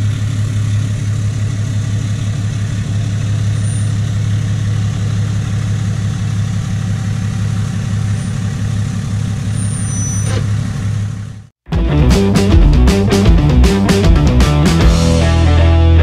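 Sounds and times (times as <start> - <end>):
diesel truck engine idling: 0.0 - 15.6.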